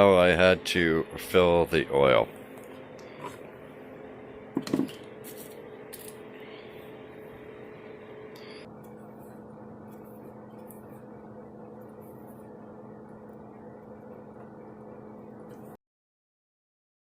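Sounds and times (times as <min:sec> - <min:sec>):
faint steady hum: 0:00.0 - 0:15.8.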